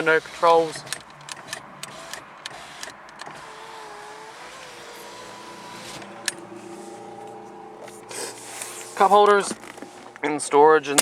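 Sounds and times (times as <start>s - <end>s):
power window motor whining: 0.0s - 10.8s.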